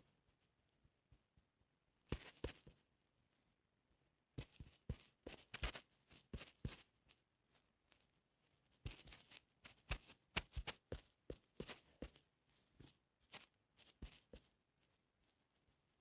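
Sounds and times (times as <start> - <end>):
faint irregular clicks and rustles: 0.0 - 16.0.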